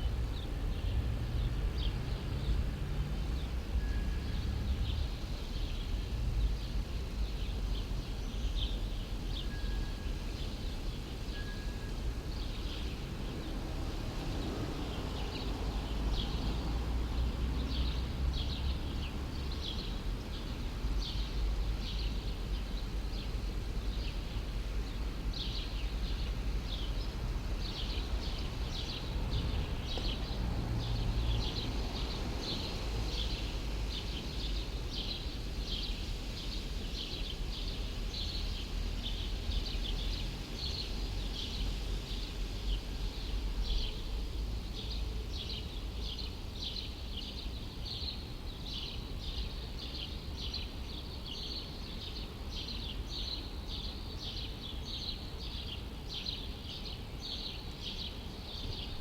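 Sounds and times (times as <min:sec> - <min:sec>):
low city rumble: 0:00.0 - 0:59.0.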